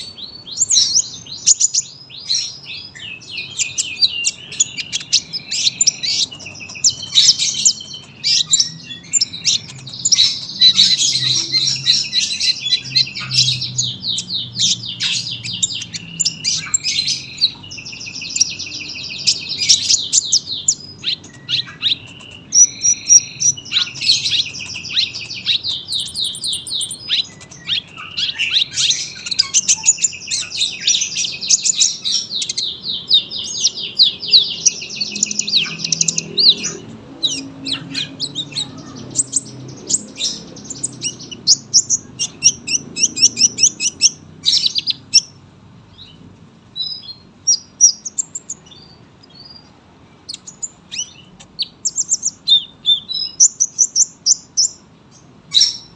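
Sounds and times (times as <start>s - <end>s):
sunbird chirps and trills: 0.0s - 55.9s.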